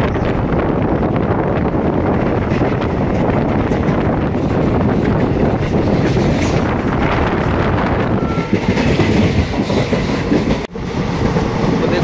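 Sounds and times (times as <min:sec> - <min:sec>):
train wheels rumbling and rattling: 0:00.0 - 0:12.0.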